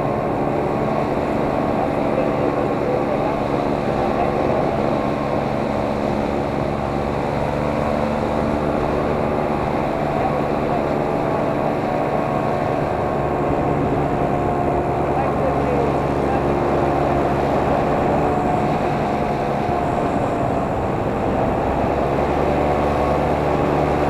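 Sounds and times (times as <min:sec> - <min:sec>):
steady motor hum: 0:00.0 - 0:24.0.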